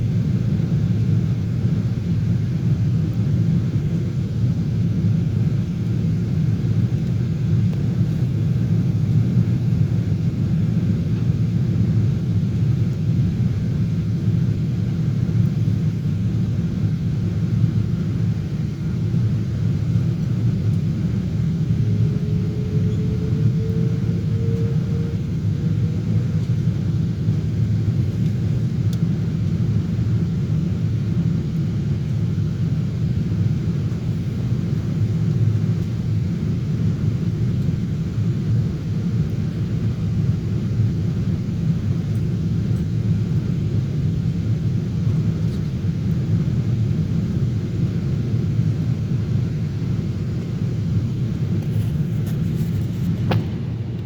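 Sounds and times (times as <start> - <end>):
airliner engines rumbling in flight: 0.0 - 54.0
faint whine: 0.0 - 54.0.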